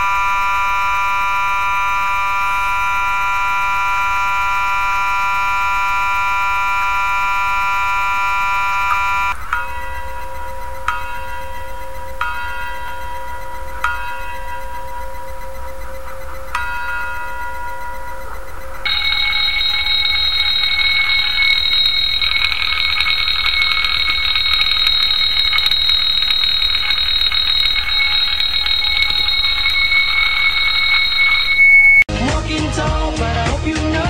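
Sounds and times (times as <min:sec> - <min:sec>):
alarm bell ringing: 0:00.0 - 0:32.1
sustained chime tone: 0:00.0 - 0:32.1.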